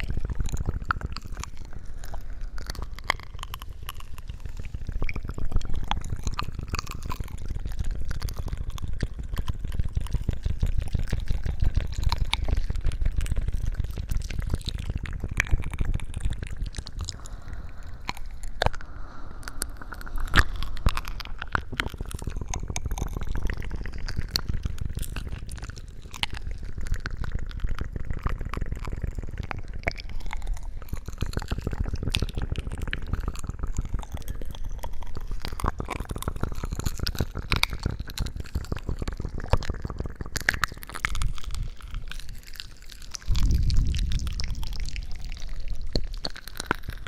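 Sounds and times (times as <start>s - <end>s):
wet crackling and squishing: 0.0s - 47.0s.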